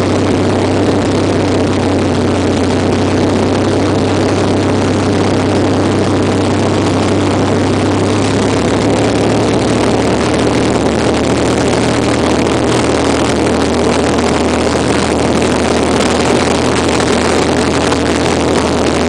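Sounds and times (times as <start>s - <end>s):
propeller aircraft engine in cockpit: 0.0s - 19.0s.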